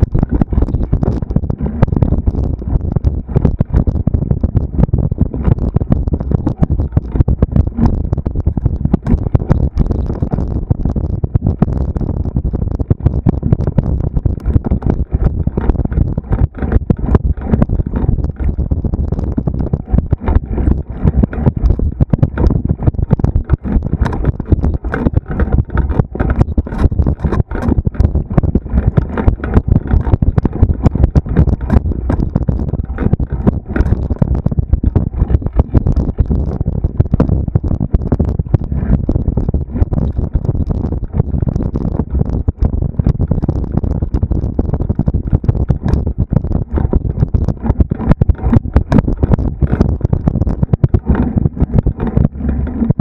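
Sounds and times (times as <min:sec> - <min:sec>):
heavy low rumble: 0:00.0 - 0:53.0
knocks and rattles: 0:00.0 - 0:53.0
wind buffeting microphone: 0:00.0 - 0:53.0.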